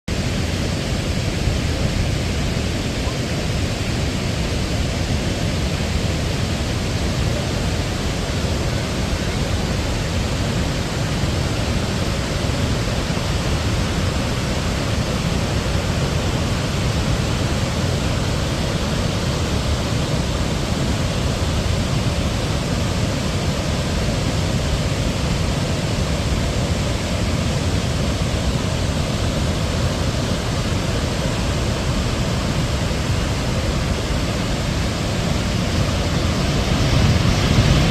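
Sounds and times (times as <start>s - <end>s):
waterfall rushing: 0.1s - 37.9s.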